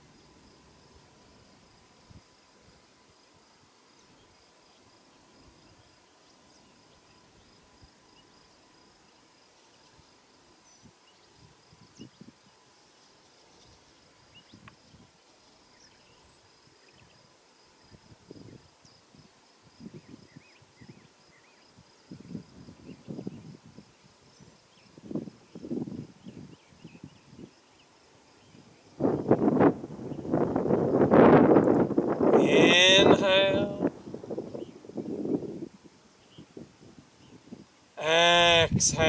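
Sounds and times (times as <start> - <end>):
high-pitched insect trill: 0.0 - 39.0.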